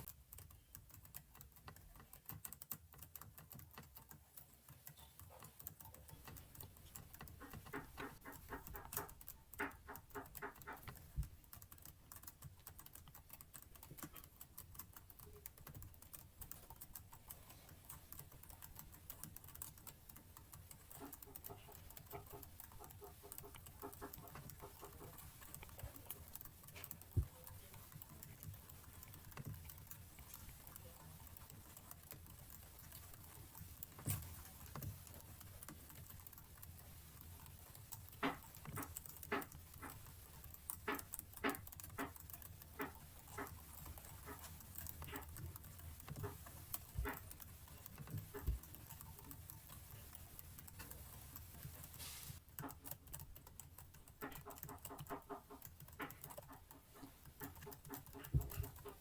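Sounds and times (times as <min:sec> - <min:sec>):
computer keyboard keys clicking: 0:00.0 - 0:59.0.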